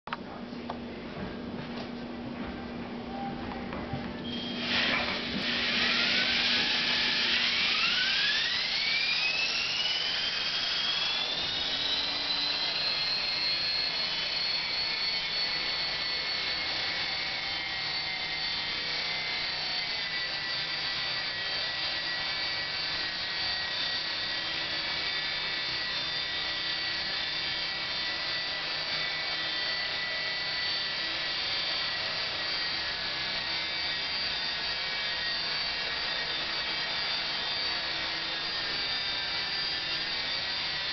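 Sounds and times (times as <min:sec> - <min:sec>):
electric helicopter motor whine: 0:02.5 - 0:40.9
rotor buzz: 0:02.6 - 0:40.9.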